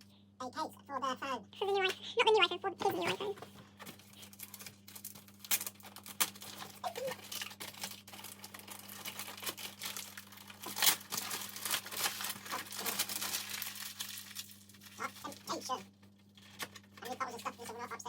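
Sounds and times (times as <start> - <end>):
wrapping paper crinkling and tearing: 2.9 - 18.0.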